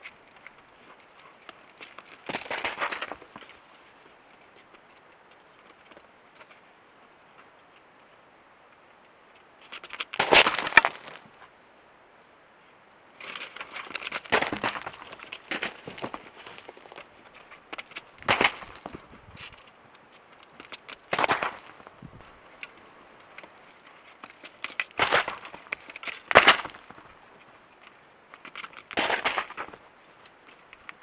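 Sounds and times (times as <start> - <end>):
hooves crunching on rock: 0.0 - 6.7, 9.4 - 11.5, 13.2 - 31.0
faint steady hiss: 0.0 - 31.0.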